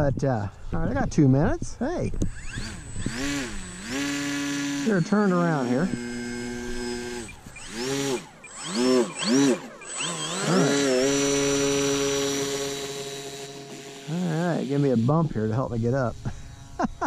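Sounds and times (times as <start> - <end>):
electric motor and propeller whine: 0.6 - 17.0.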